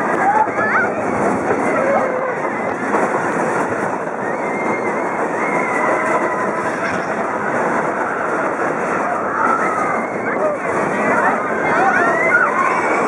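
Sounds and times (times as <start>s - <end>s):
roller coaster rattling rumble: 0.0s - 13.0s.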